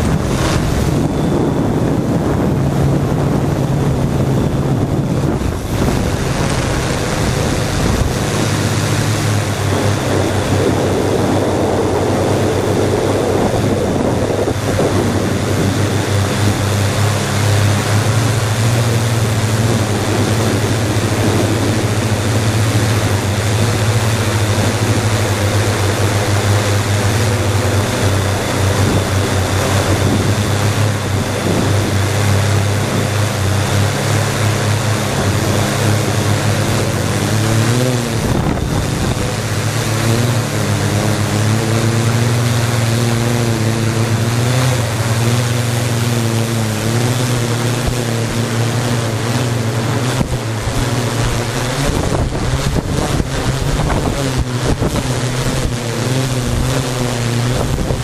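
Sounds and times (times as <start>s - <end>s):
drone propellers humming: 0.0s - 58.0s
wind noise on microphone: 0.0s - 58.0s.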